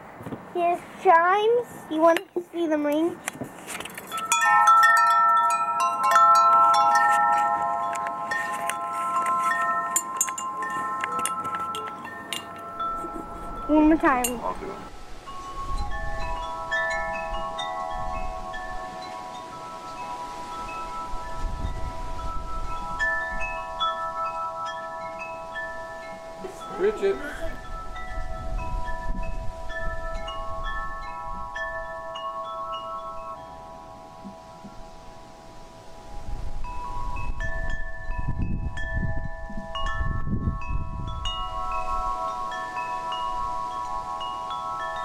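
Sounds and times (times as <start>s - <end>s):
wind chimes ringing: 3.8s - 45.0s.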